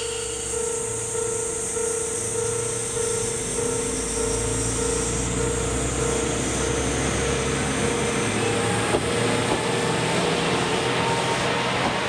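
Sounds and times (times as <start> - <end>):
railcar engine running: 0.0 - 12.0.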